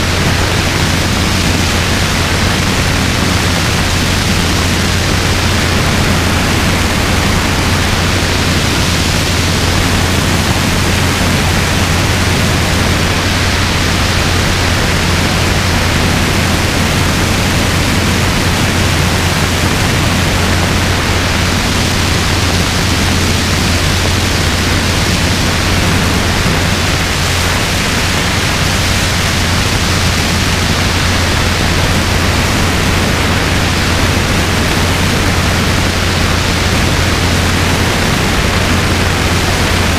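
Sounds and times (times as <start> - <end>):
helicopter rotor noise: 0.0 - 39.9
low engine drone: 0.0 - 39.9
wind hitting microphone: 0.0 - 39.9.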